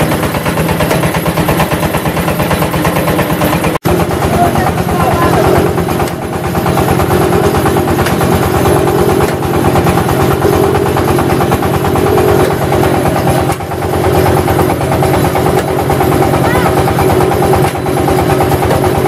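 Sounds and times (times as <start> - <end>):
brick press engine pulsing: 0.0 - 19.0.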